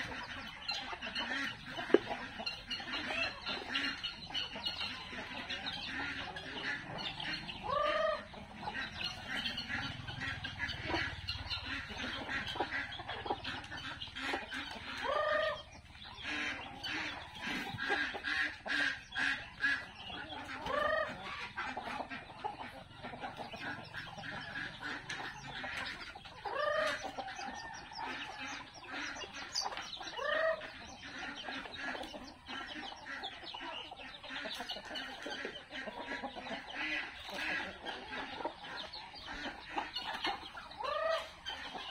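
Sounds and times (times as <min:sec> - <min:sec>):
chickens clucking: 0:00.0 - 0:41.9.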